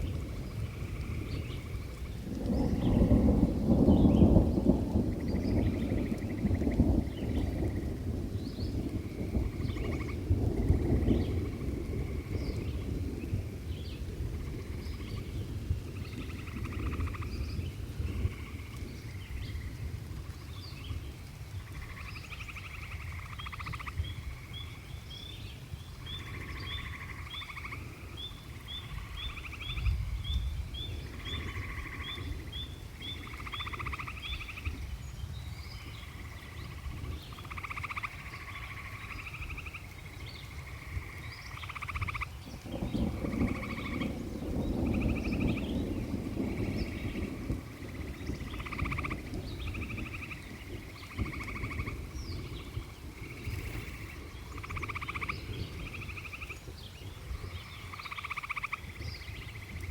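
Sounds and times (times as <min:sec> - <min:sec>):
frogs trilling: 0:00.0 - 0:13.6, 0:14.2 - 0:25.3, 0:25.9 - 0:59.9.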